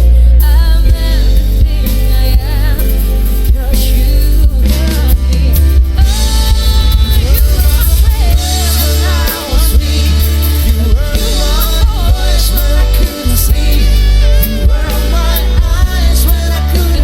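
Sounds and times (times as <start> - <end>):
heavy bass line: 0.0 - 17.0
person singing: 0.0 - 17.0.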